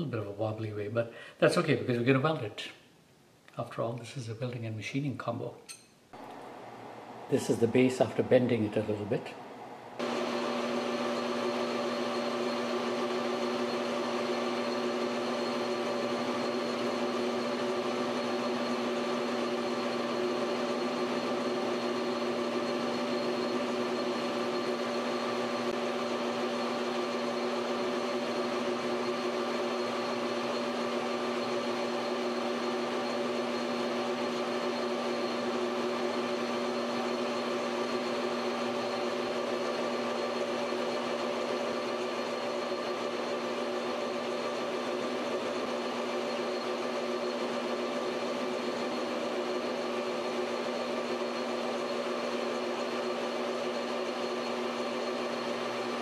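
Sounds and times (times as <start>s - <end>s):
metal lathe humming: 6.2s - 56.0s.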